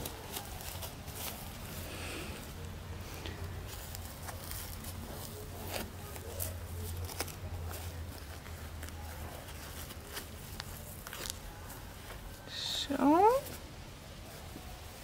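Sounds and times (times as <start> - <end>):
diaper and clothing rustling: 0.0 - 15.0.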